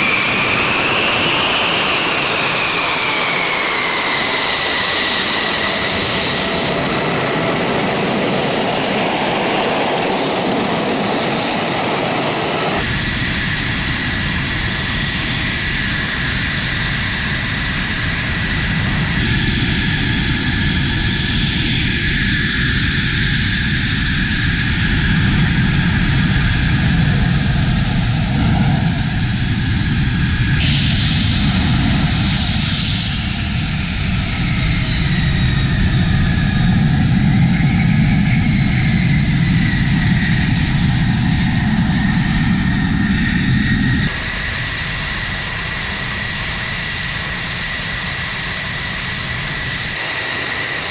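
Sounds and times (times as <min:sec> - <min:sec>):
high engine whine: 0:00.0 - 0:50.9
jet engine running loud: 0:00.0 - 0:50.9.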